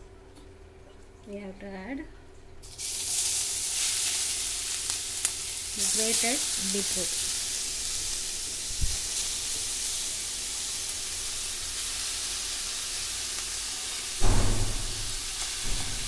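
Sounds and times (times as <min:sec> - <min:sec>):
beetroot sizzling in a pan: 0:02.6 - 0:16.0.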